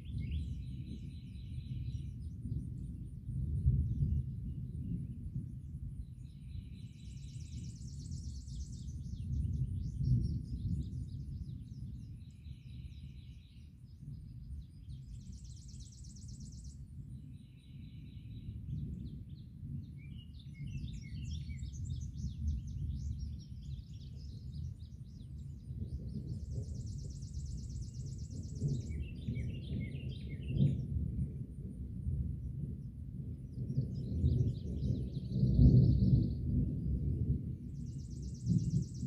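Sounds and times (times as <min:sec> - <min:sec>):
birds singing and chirping: 0:00.0 - 0:31.0, 0:32.8 - 0:36.6, 0:37.7 - 0:39.0
distant thunder rumbling: 0:00.1 - 0:13.2, 0:18.5 - 0:39.0.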